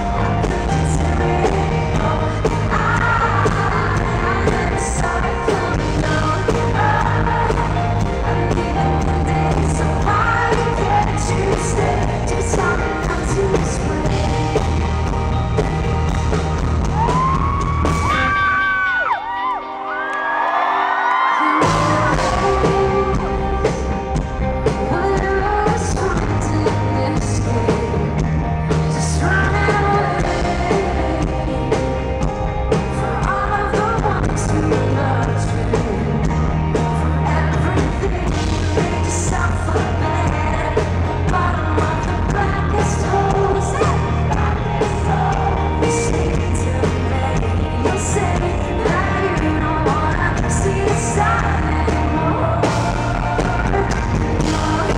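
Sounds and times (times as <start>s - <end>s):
woman singing: 0.0s - 18.8s, 21.3s - 54.9s
live rock band playing: 0.0s - 54.9s.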